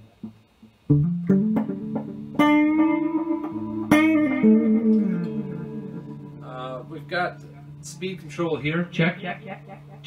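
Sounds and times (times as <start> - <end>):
electric guitar with tape echo: 0.0 - 10.0.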